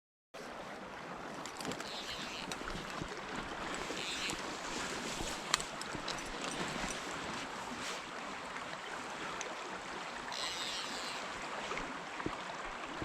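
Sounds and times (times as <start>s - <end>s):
stream water running: 0.4s - 13.0s.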